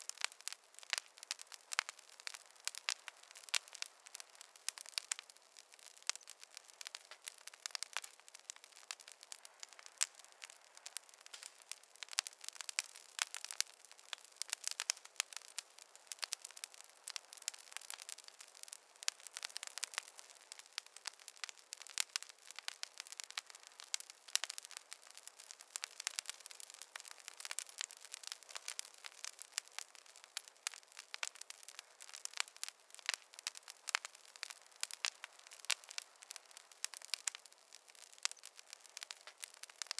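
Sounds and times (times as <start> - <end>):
faint hiss: 0.0 - 39.9
wood fire crackling: 0.0 - 39.9.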